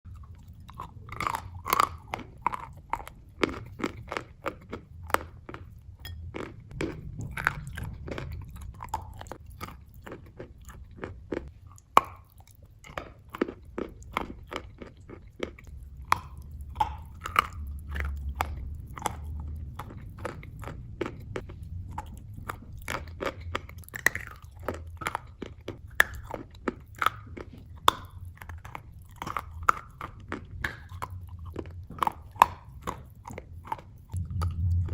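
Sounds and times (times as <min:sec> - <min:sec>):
crunchy food chewing: 0:00.1 - 0:34.9.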